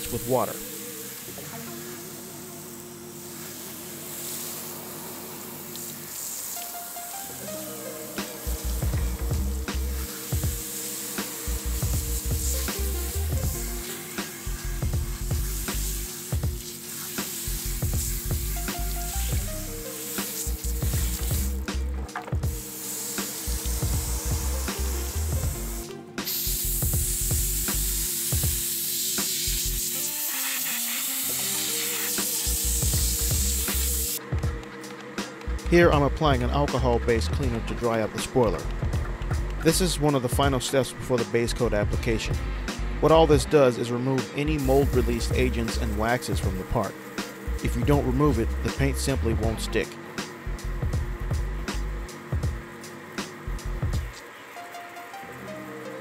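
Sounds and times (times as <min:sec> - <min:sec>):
air blow gun hissing: 0:00.0 - 0:34.2, 0:42.6 - 0:54.5
hose nozzle spraying water: 0:00.0 - 0:34.2, 0:44.2 - 0:55.8
background music with held notes: 0:00.0 - 0:56.0.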